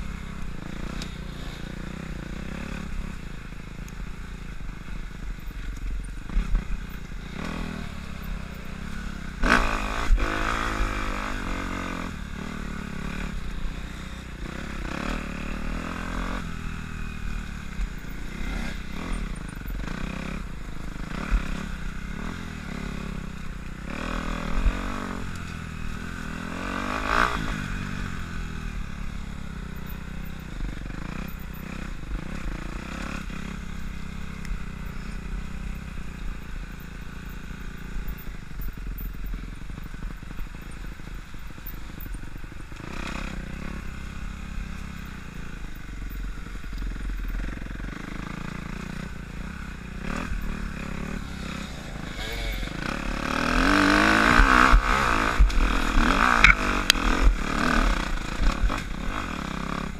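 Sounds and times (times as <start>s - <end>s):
dirt bike engine revving: 0.0s - 3.5s, 6.2s - 36.4s, 37.0s - 59.9s.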